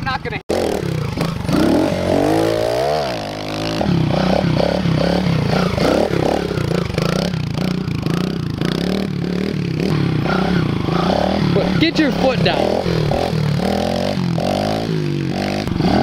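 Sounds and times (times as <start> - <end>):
small motorbike engine revving: 0.5 - 16.0.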